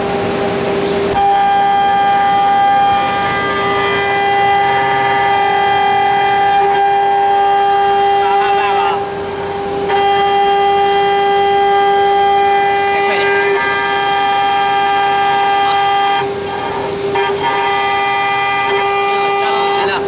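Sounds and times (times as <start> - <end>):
spindle whining: 0.0 - 20.0.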